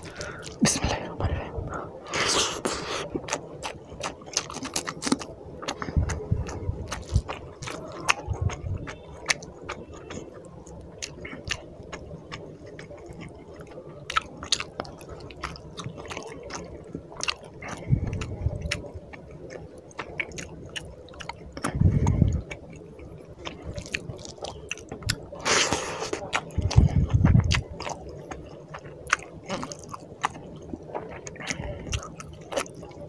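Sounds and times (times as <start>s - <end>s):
chewing food: 0.0s - 1.5s, 2.1s - 33.0s.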